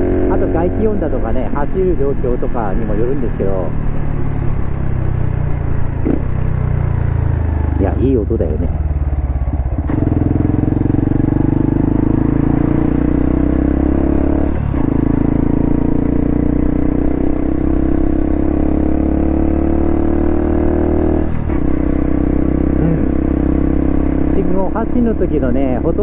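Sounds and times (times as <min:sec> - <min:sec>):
motorcycle engine pulling steadily: 0:00.0 - 0:26.0.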